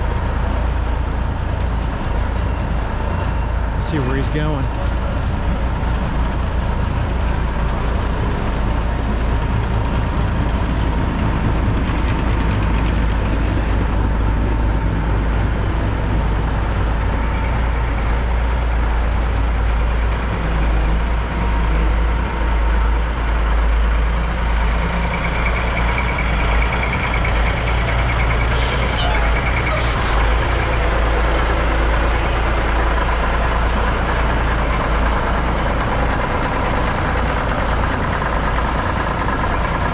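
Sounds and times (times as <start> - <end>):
truck engine running at low speed: 0.0 - 39.9.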